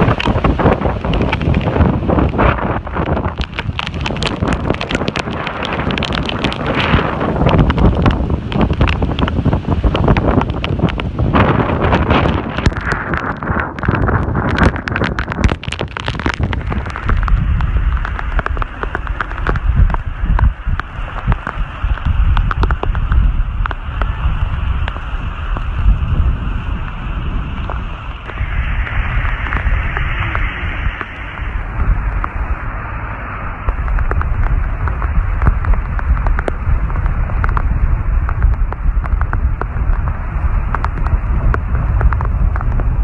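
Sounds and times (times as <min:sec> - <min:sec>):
rain drops crackling and tapping: 0:00.0 - 0:43.0
wind buffeting microphone: 0:00.0 - 0:43.0.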